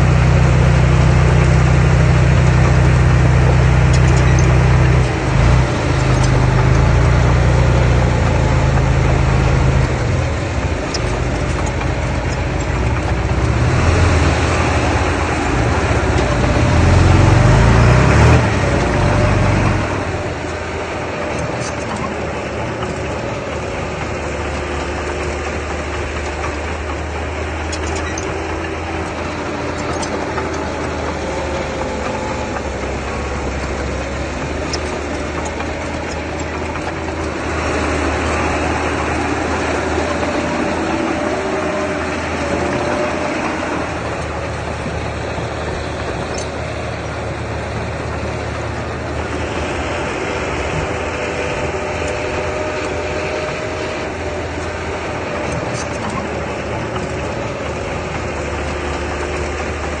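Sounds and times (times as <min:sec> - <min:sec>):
heavy machine engine running: 0:00.0 - 1:00.0.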